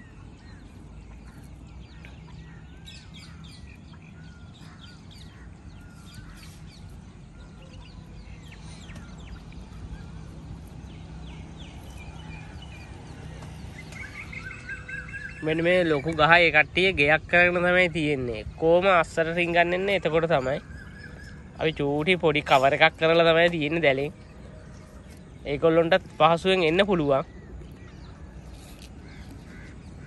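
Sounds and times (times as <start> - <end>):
birds chirping and whistling: 0.0 - 30.0.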